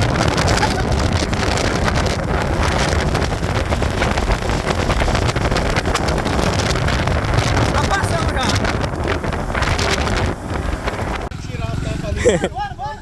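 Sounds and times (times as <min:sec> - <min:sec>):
wind buffeting microphone: 0:00.0 - 0:12.4
motorcycle engine running: 0:00.0 - 0:13.0.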